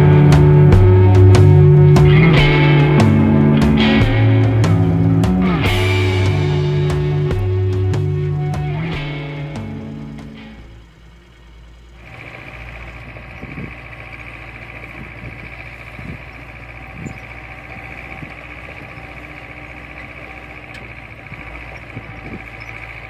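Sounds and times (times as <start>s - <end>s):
high-pitched whine: 0.0s - 23.0s
tractor engine running: 0.0s - 23.0s.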